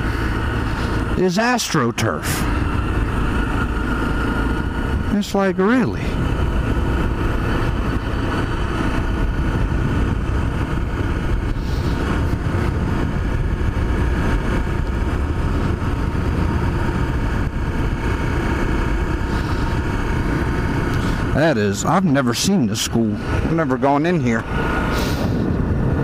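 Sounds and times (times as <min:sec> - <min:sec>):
motorcycle engine low rumble: 0:00.0 - 0:26.0.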